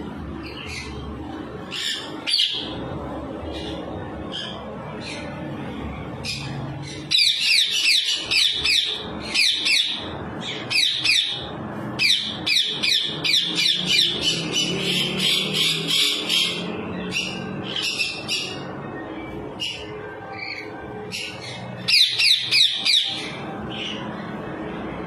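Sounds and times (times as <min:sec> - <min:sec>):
parrot squawking: 0:00.4 - 0:02.9, 0:03.5 - 0:05.4, 0:06.2 - 0:18.7, 0:19.6 - 0:24.1.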